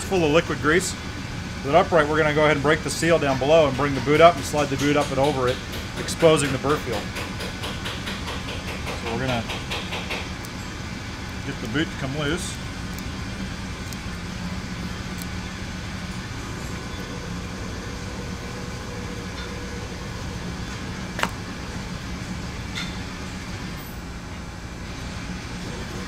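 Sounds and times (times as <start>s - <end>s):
workshop background hum: 0.0s - 26.0s.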